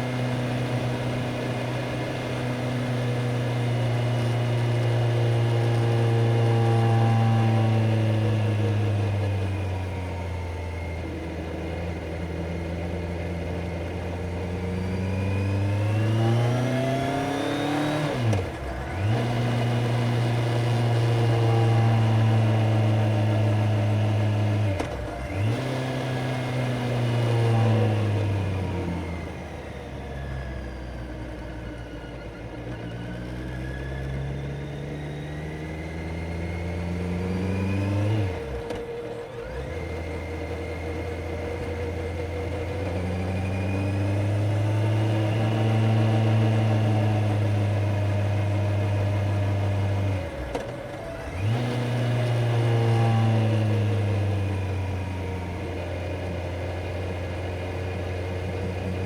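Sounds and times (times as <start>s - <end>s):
motorcycle engine revving: 0.0s - 31.0s, 31.6s - 59.0s.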